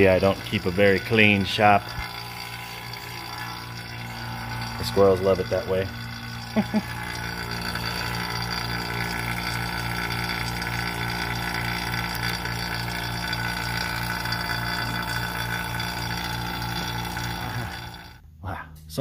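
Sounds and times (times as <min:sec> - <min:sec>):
vacuum pump humming: 0:00.0 - 0:18.2.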